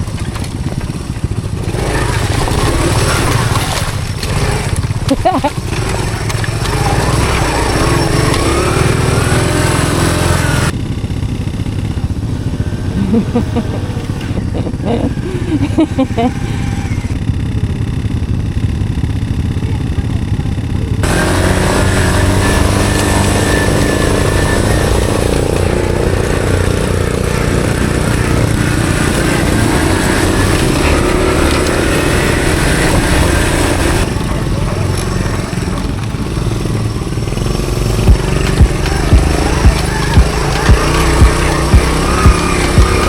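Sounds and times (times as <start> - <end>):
motorbike engine running: 0.0 - 43.0.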